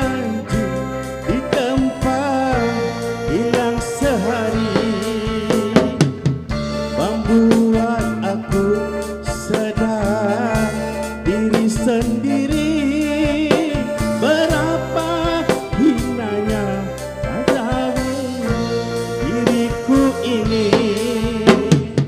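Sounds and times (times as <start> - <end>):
man singing into microphone: 0.0 - 6.2, 6.8 - 22.0
drums on a steady beat: 0.0 - 22.0
electric guitars: 0.0 - 22.0
electronic keyboard: 0.0 - 22.0.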